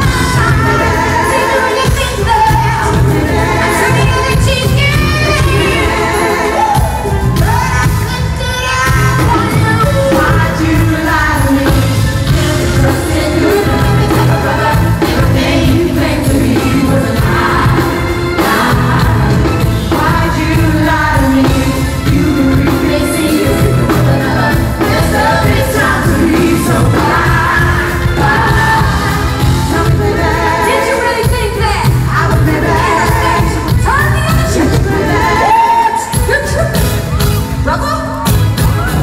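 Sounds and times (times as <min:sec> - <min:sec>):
live pop-rock band: 0:00.0 - 0:39.0.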